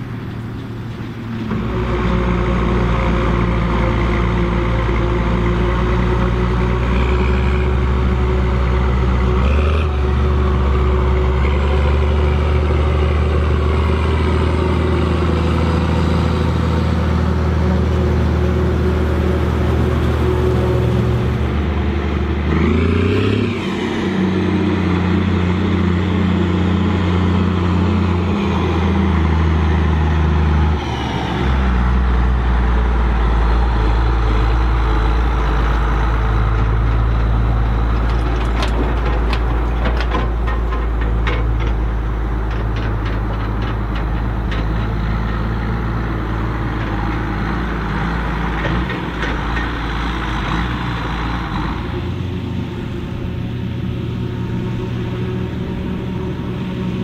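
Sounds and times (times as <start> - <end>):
diesel farm machinery running: 0.0 - 57.0
tractor diesel engine rumble: 0.0 - 57.0.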